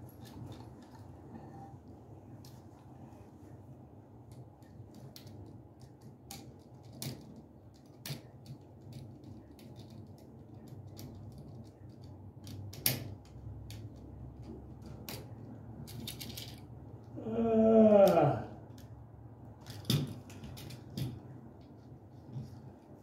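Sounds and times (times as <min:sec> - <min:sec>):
faint low steady hum: 0:00.0 - 0:23.0.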